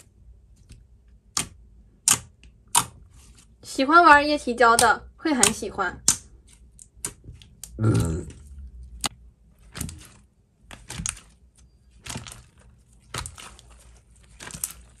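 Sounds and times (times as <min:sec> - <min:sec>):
sticky slime clicks and crackles: 0:00.7 - 0:03.0, 0:04.6 - 0:15.0.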